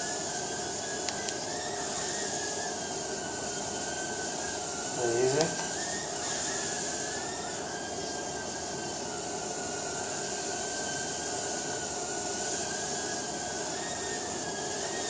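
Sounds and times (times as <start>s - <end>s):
small drone motors whining: 0.0s - 12.0s, 12.6s - 15.0s.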